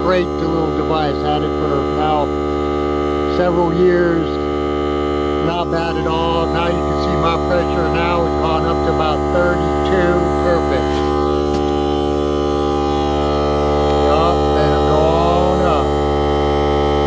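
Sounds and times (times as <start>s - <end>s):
air compressor motor hum: 0.0s - 17.0s.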